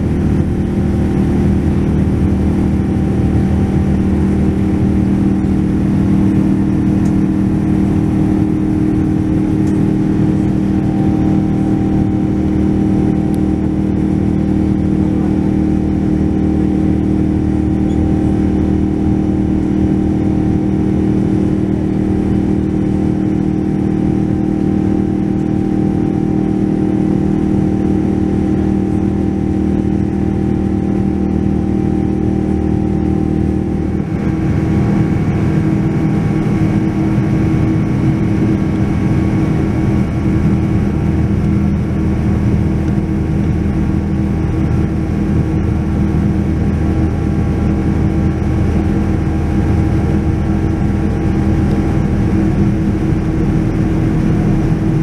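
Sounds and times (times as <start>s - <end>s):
jet engine drone in cabin: 0.0s - 55.0s
jet engine whine: 0.0s - 55.0s.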